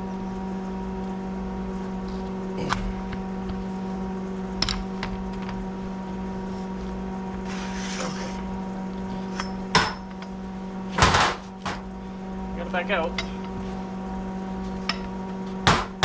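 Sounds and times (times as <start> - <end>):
stick welder electrical hum: 0.0 - 16.0.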